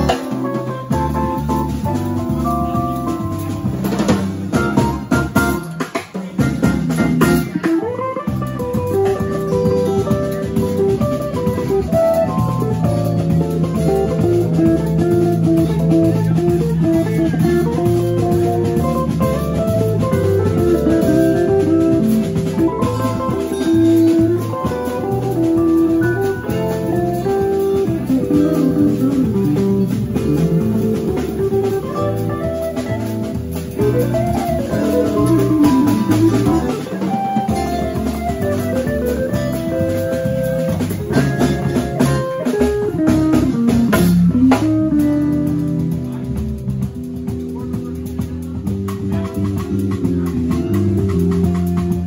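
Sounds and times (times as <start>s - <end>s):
electric guitar: 0.0s - 52.0s
jazz band playing: 0.0s - 52.0s.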